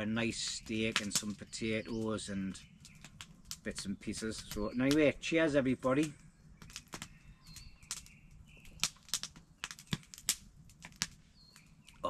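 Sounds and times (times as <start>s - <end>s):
bird chirps: 0.0s - 10.3s, 10.9s - 12.0s
campfire crackling and popping: 0.0s - 12.0s.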